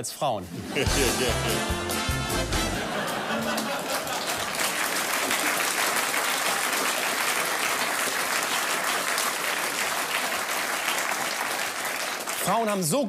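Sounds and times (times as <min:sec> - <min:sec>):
audience applauding: 0:00.8 - 0:12.9.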